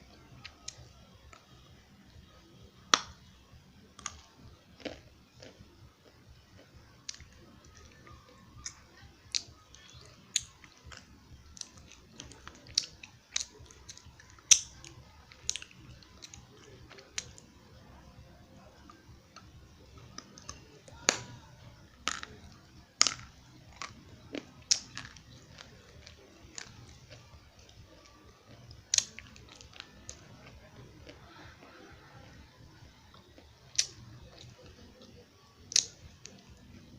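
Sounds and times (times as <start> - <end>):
clay being bitten and chewed: 3.9 - 17.6, 18.6 - 36.8.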